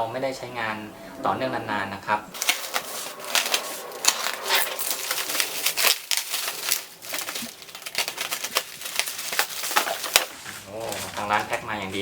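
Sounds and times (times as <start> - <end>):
bubble wrap crinkling: 2.3 - 12.0.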